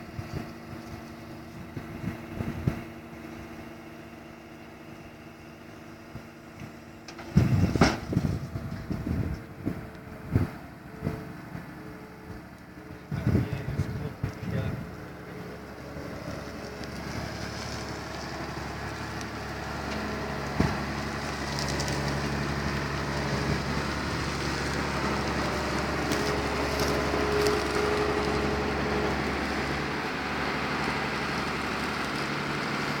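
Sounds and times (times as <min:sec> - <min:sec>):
combine harvester engine hum: 0:00.0 - 0:33.0.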